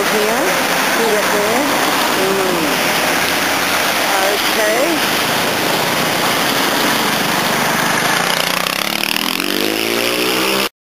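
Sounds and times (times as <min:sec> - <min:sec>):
passing vehicle engine: 0:00.0 - 0:10.7
road noise: 0:00.0 - 0:10.7.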